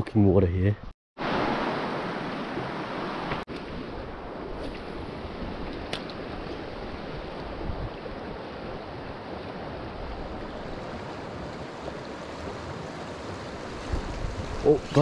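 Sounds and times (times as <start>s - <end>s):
river water rushing over stones: 1.2s - 15.0s.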